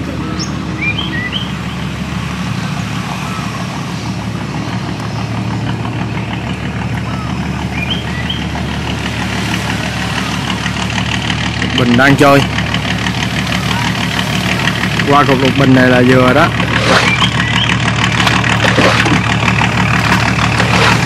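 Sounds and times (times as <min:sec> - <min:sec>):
boat engine puttering: 0:00.0 - 0:21.0.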